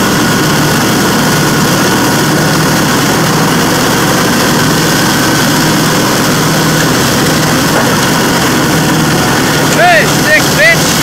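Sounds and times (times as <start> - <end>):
lawn mower running: 0.0 - 11.0
mower chopping dry leaves: 0.0 - 11.0.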